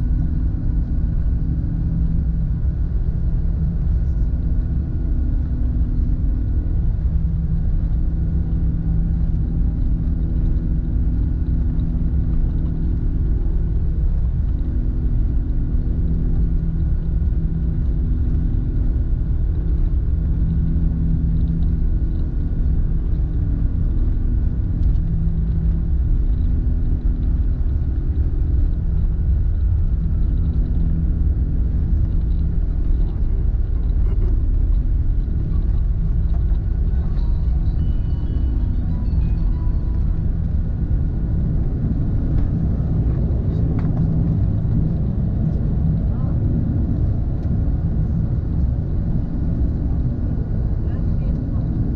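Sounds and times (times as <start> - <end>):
aircraft engines rumbling: 0.0 - 51.9
low hum: 0.0 - 51.9.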